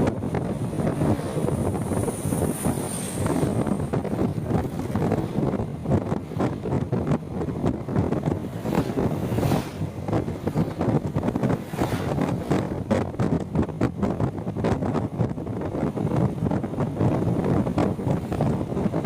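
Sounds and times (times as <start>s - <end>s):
motorcycle road rumble: 0.0s - 19.0s
wind buffeting microphone: 0.0s - 19.0s.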